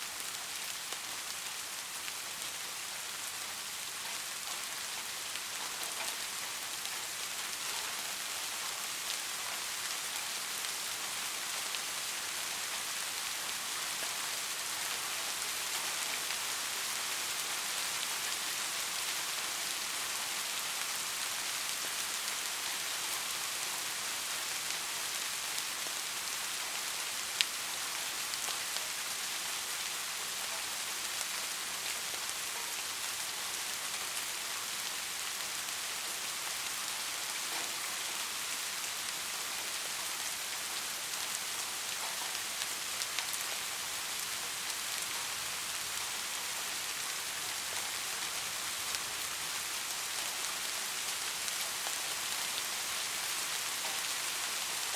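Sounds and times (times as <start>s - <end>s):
gentle rain: 0.0s - 54.9s.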